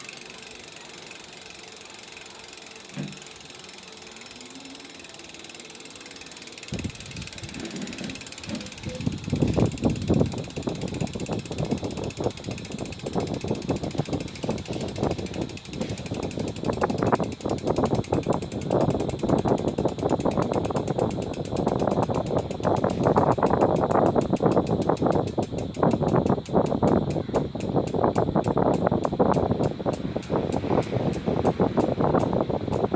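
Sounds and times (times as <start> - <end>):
bicycle freewheel ratcheting: 0.0 - 32.9.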